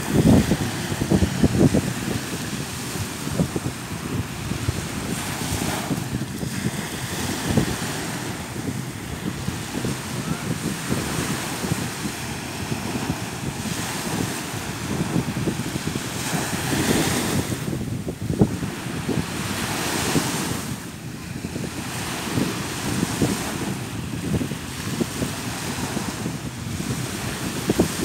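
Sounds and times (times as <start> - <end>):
waves washing up a sandy beach: 0.0 - 28.0
wind buffeting microphone: 0.0 - 28.0.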